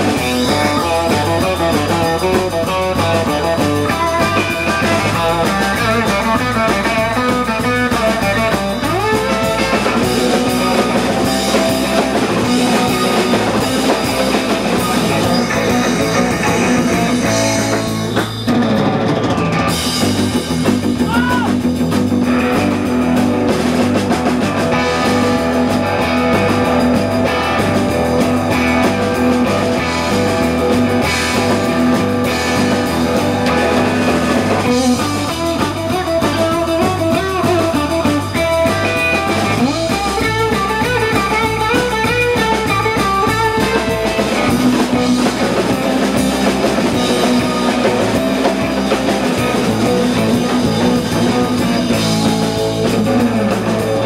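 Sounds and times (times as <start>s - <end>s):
bass guitar: 0.0s - 54.0s
drums: 0.0s - 54.0s
electric guitar: 0.0s - 54.0s.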